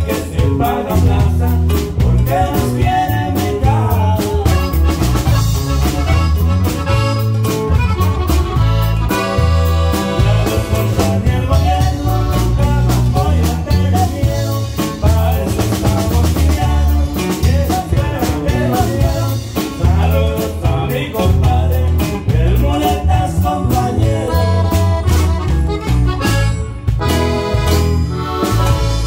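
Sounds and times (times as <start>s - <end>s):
accordion band music: 0.0s - 29.0s.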